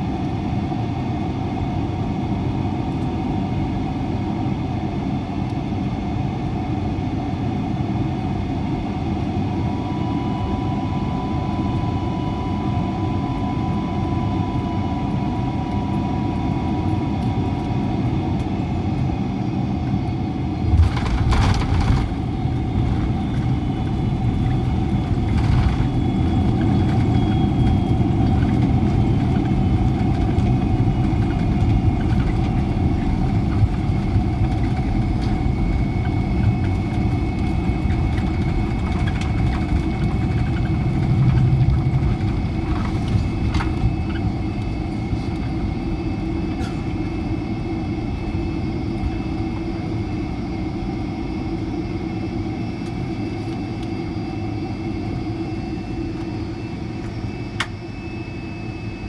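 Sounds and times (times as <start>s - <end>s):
jet engines humming with whine: 0.0s - 59.0s.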